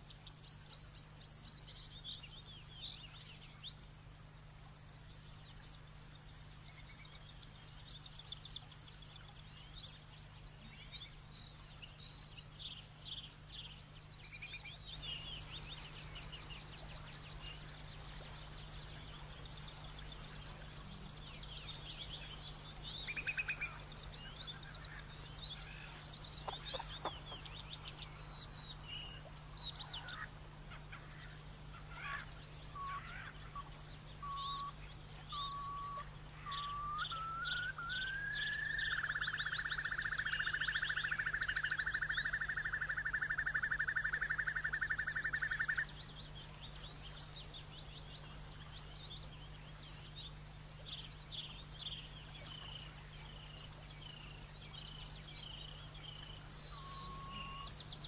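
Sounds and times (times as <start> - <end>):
faint low hum: 0.0 - 58.0
lower bird calls: 0.0 - 58.0
small birds chirping and trilling: 0.0 - 58.0.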